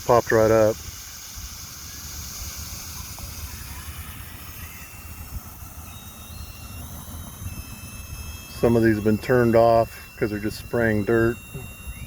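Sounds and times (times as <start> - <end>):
faint hiss of sprinkler water: 0.0 - 12.0.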